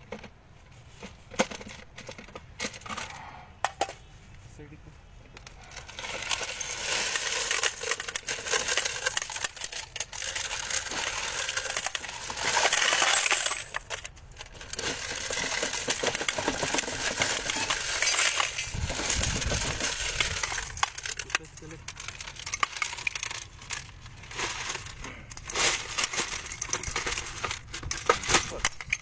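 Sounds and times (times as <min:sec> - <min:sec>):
brass cartridges clinking: 0:05.6 - 0:29.0.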